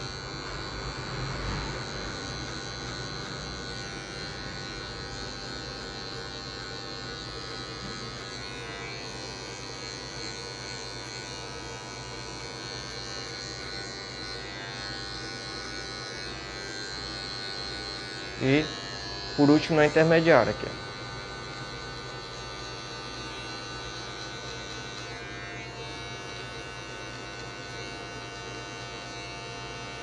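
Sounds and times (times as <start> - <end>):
electric hair clipper buzzing: 0.0 - 30.0.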